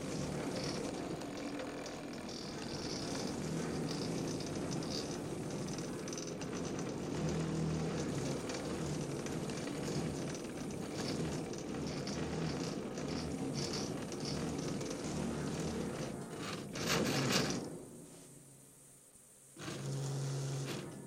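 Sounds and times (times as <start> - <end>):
light rattling: 0.0 - 17.8.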